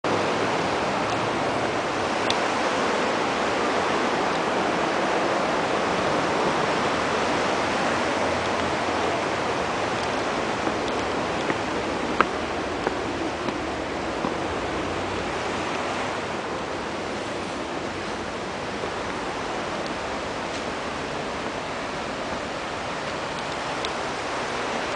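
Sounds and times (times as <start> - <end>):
river rushing over rocks: 0.0 - 24.9.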